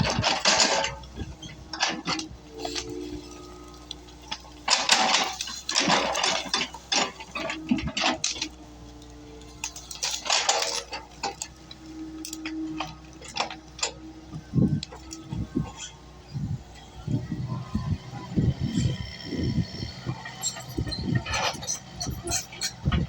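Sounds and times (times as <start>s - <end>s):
metallic clanks and scrapes: 0.0s - 8.6s, 9.4s - 16.0s, 18.7s - 23.0s
excavator engine and hydraulics hum: 0.0s - 23.0s.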